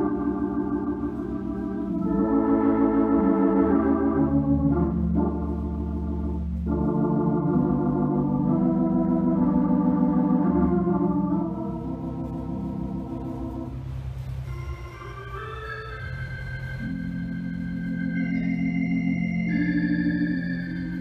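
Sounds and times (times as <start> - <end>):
deep organ bass pedal notes: 0.0 - 21.0
organ playing held chords: 0.0 - 21.0.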